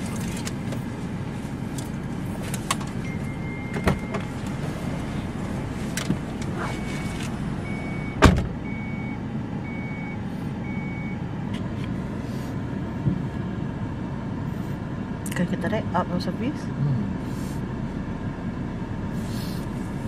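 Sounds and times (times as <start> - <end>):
car engine running inside cabin: 0.0 - 20.0.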